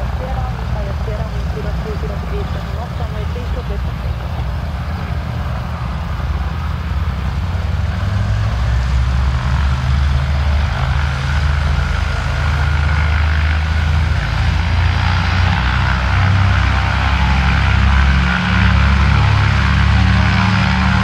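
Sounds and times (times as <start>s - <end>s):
propeller plane engines droning: 0.0s - 21.0s.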